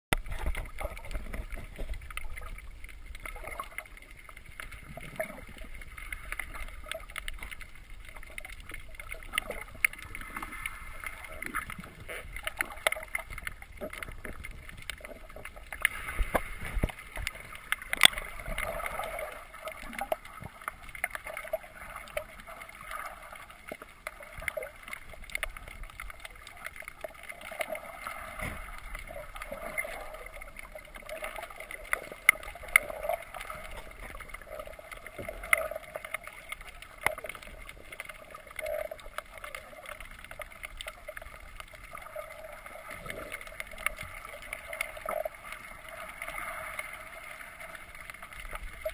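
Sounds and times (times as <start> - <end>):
water gurgling underwater: 0.1 - 48.9.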